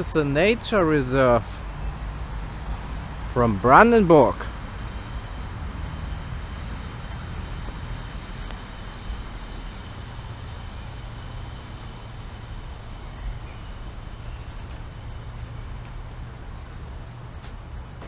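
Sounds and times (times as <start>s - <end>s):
faint rushing hiss: 0.0s - 18.0s.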